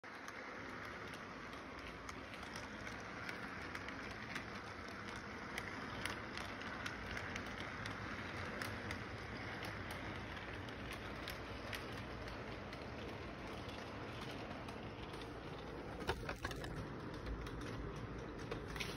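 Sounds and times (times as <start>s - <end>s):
model train running on track: 0.0s - 18.9s
wheels clicking over rail joints: 0.0s - 18.9s.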